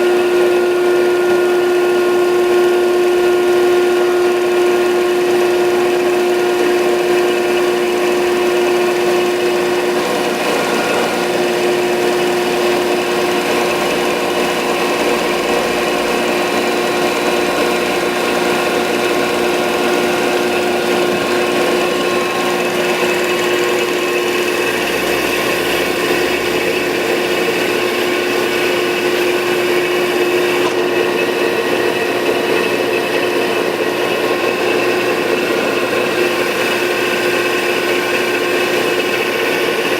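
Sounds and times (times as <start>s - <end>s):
grinder machine hum and whine: 0.0s - 39.9s.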